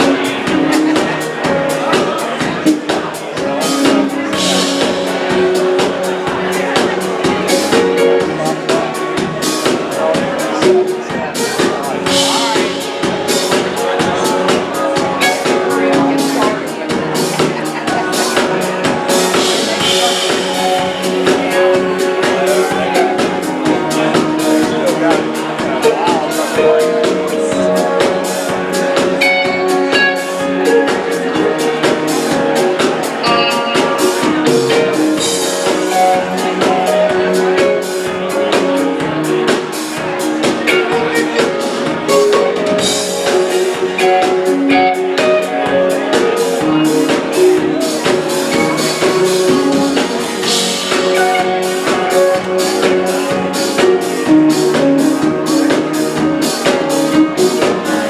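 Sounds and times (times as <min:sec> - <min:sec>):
drum kit beat: 0:00.0 - 0:58.0
guitar lines: 0:00.0 - 0:58.0.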